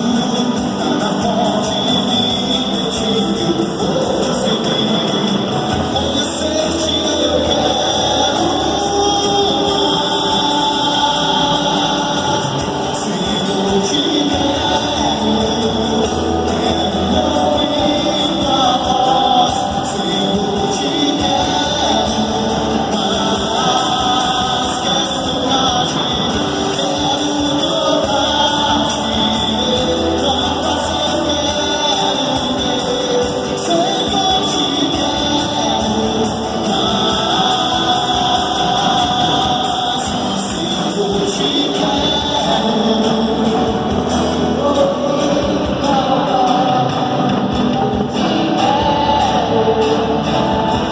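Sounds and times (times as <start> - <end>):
live music with singing: 0.0 - 50.9.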